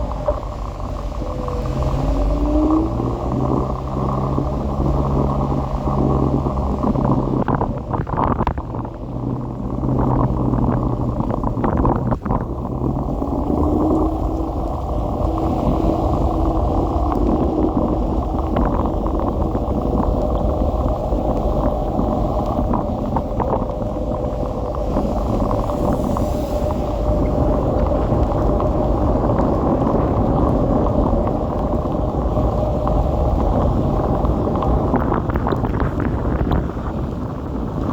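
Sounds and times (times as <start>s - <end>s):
electric scooter motor hum: 0.0s - 37.9s
wind rumbling on microphone: 0.0s - 37.9s.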